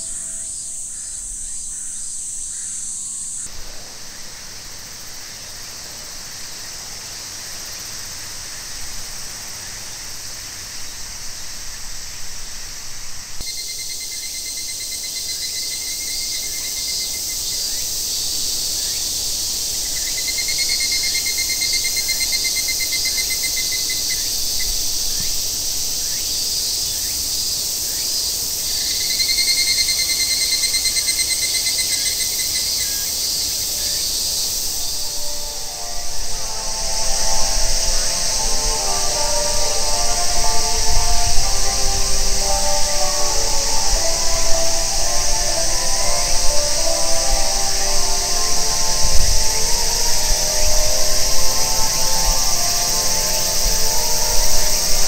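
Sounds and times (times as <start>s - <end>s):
cicada chorus drone: 0.0s - 55.0s
cicadas calling in pulsing phrases: 0.0s - 55.0s.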